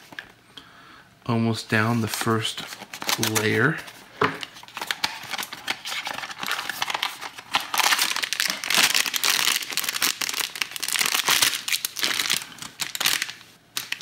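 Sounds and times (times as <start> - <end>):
foil bag crinkling: 1.9 - 14.0.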